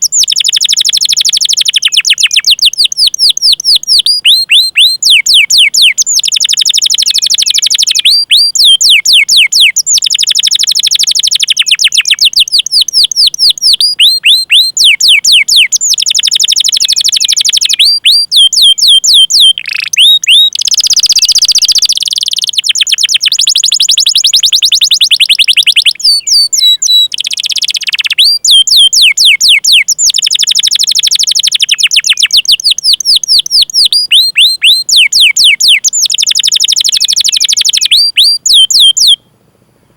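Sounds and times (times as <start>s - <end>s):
canary singing: 0.0s - 39.3s.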